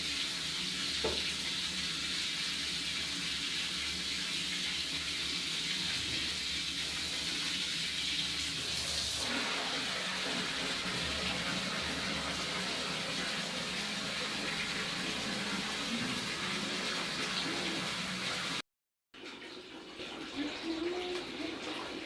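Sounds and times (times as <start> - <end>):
water running from a tap: 0.0 - 18.6, 19.2 - 22.0.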